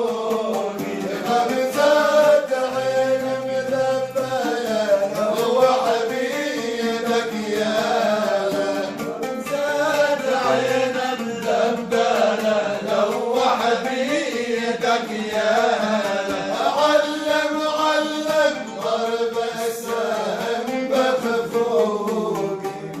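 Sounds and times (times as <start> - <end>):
man singing long wavering notes: 0.0 - 23.0
music: 0.0 - 23.0.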